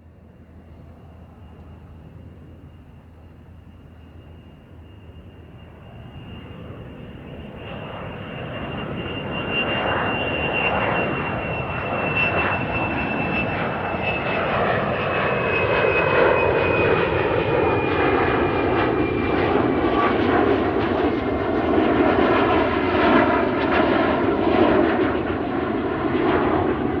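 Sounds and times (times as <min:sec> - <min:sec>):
aeroplane engines with falling whine: 0:00.0 - 0:27.0.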